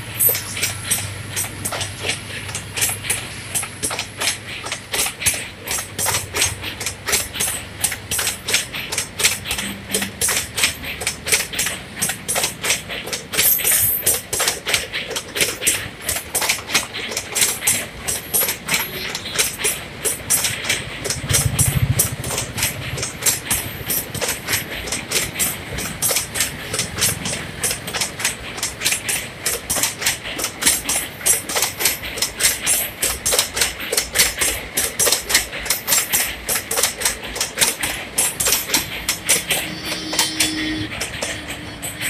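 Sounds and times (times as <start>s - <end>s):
train wheels clattering over rail joints: 0.0s - 42.0s.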